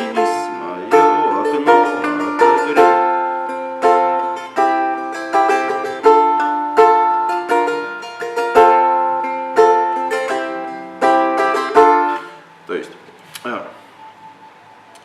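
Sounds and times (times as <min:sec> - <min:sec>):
balalaika strummed chords: 0:00.0 - 0:12.7.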